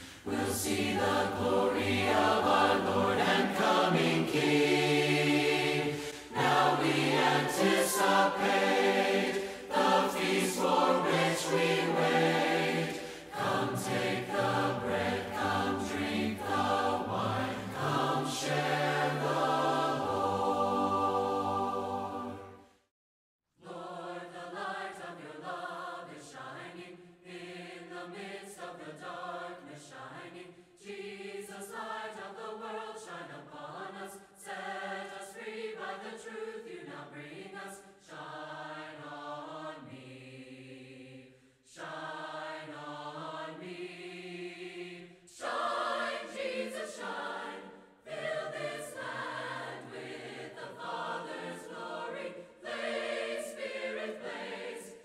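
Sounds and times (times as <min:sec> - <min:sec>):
choir singing a hymn: 0:00.0 - 0:22.7, 0:23.6 - 0:55.0.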